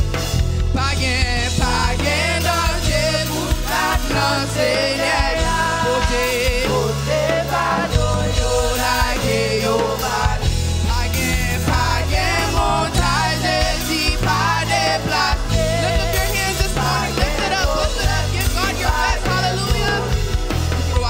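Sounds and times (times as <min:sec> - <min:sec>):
drums: 0:00.0 - 0:21.0
electric bass: 0:00.0 - 0:21.0.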